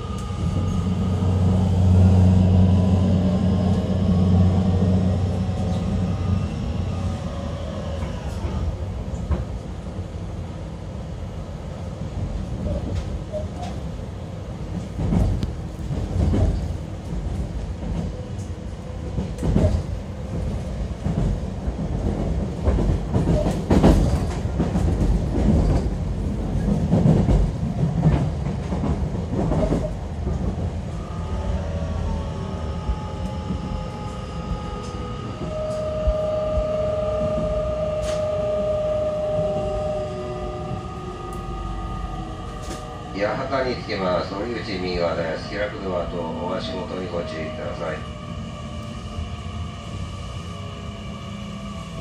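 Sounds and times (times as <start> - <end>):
train running rumble: 0.0 - 52.0.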